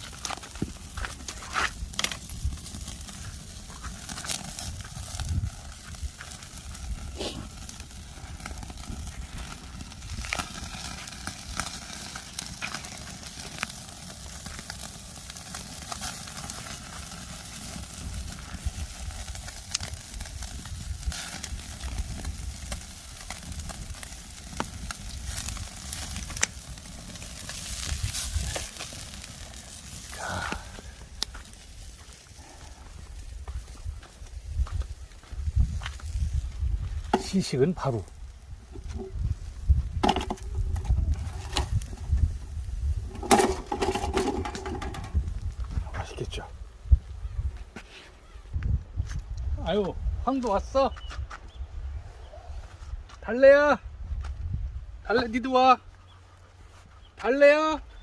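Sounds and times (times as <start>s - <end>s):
fish sizzling over wood fire: 0.0s - 48.3s
sharp crackles and pops: 0.0s - 51.7s.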